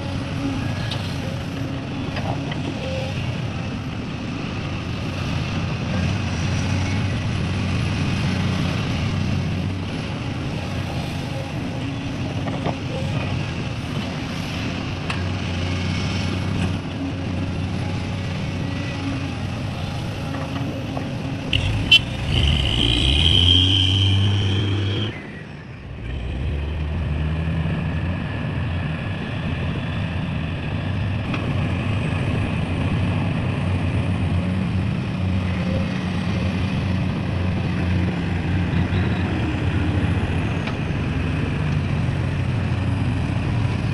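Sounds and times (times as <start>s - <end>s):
heavy diesel machinery running: 0.0s - 43.9s.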